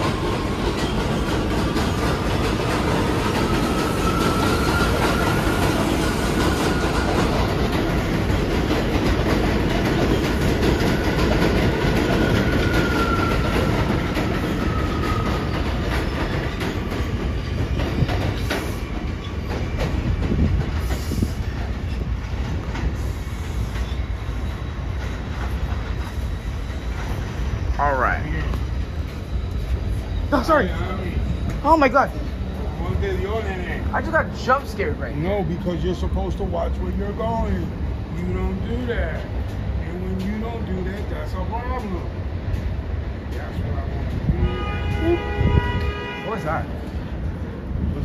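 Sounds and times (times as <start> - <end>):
subway train rumbling: 0.0 - 48.0.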